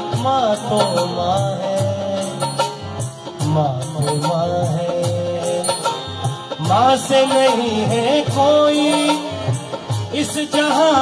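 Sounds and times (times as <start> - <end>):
hand drum beating rhythm: 0.0 - 11.0
harmonium: 0.0 - 11.0
man singing devotional song: 0.0 - 11.0.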